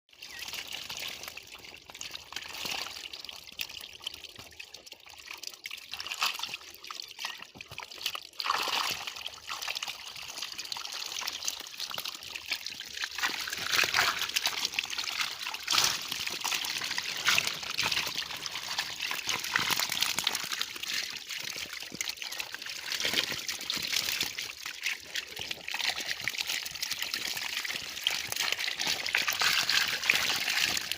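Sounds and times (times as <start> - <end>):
water trickling and pouring: 0.1 - 30.9.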